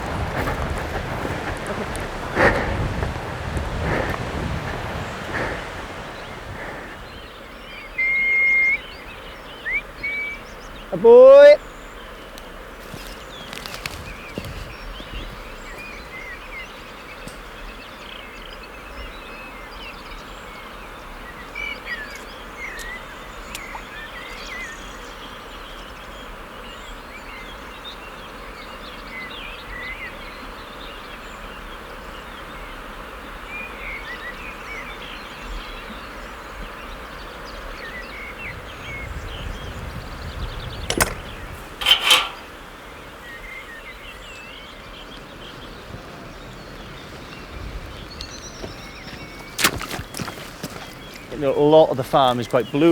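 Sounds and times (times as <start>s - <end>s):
small birds singing: 0.0s - 52.9s
steady outdoor hiss: 0.0s - 52.9s.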